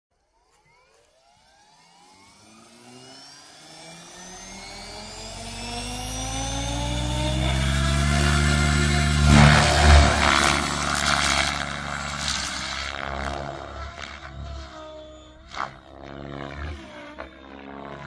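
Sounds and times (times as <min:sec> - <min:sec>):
low rotor hum: 0:00.2 - 0:18.0
helicopter whine rising in pitch: 0:00.3 - 0:18.0.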